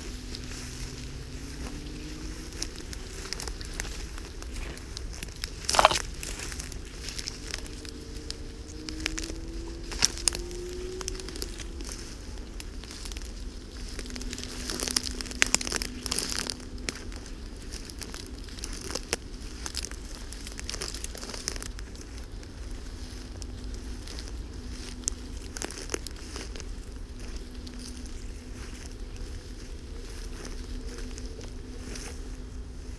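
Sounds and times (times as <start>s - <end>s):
crunching footsteps: 0.0s - 32.9s
dry grass rustling: 0.0s - 32.9s
stems snapping: 0.3s - 32.3s.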